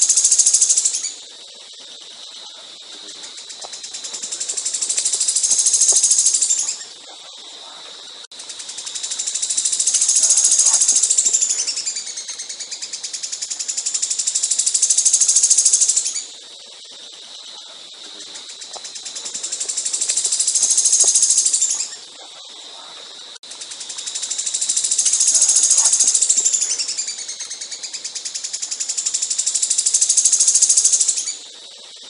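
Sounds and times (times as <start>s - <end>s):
songbird buzzing trill: 0.0s - 1.4s, 2.4s - 7.0s, 8.4s - 16.5s, 18.3s - 22.0s, 23.5s - 31.5s.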